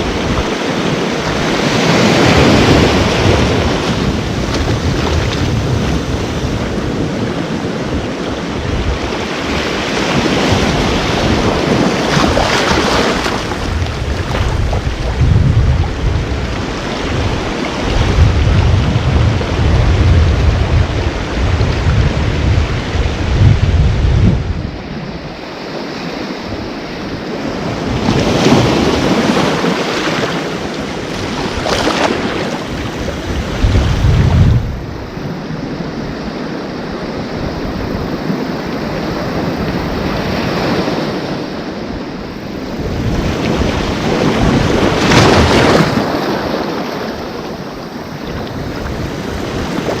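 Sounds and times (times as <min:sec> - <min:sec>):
ocean waves breaking: 0:00.0 - 0:50.0
wind buffeting microphone: 0:00.0 - 0:50.0.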